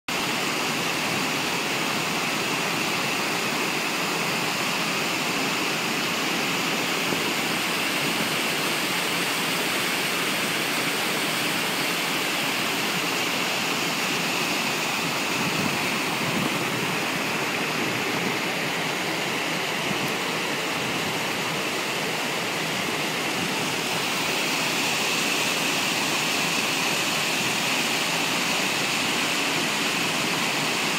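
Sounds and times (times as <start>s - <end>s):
waterfall pouring into pool: 0.1s - 30.9s.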